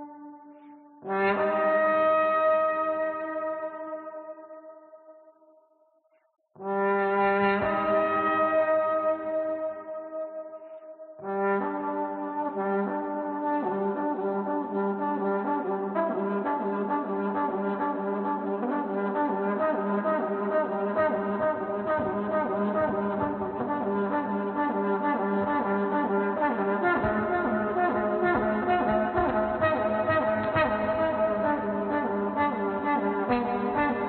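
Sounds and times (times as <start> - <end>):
layered trombone notes: 1.0 - 4.2, 6.6 - 10.4, 11.2 - 34.0.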